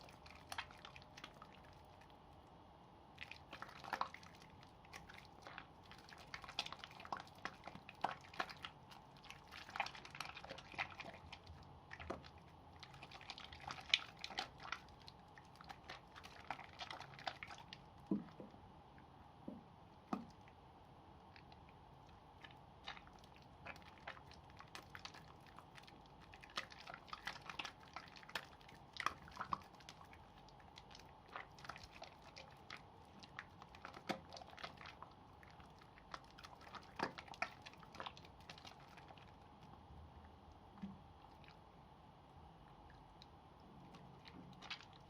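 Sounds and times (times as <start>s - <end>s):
soap lather squishing in hands: 0.0s - 2.4s, 3.2s - 18.4s, 21.3s - 39.8s, 43.0s - 45.0s
faint steady hum: 0.0s - 45.0s.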